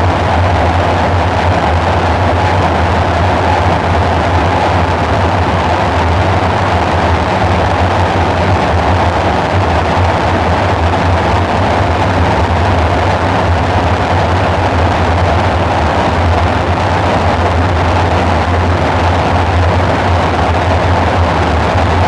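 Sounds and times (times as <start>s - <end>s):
synthesizer drone with hiss: 0.0s - 22.0s.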